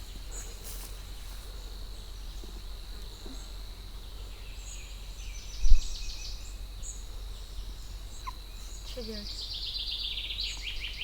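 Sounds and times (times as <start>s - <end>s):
high insect-like whine: 0.0s - 11.0s.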